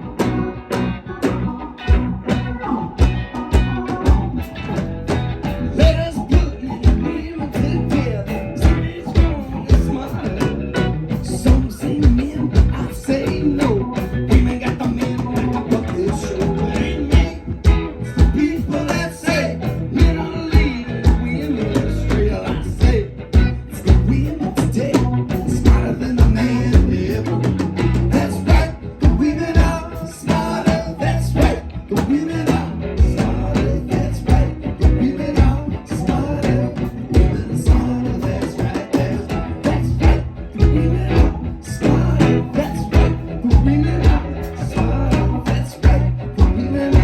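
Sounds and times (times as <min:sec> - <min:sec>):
guitar: 0:00.0 - 0:47.0
live band playing upbeat song: 0:00.0 - 0:47.0
steady drum beat: 0:00.2 - 0:47.0
singing: 0:05.8 - 0:47.0.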